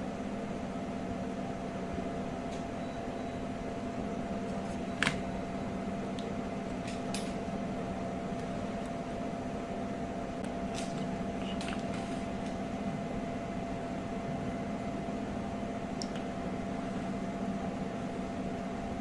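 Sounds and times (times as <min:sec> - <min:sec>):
machine hum with tones: 0:00.0 - 0:19.0.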